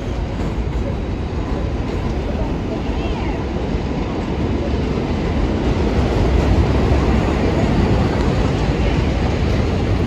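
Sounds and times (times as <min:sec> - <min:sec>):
train rumbling on elevated track: 0:00.0 - 0:10.0.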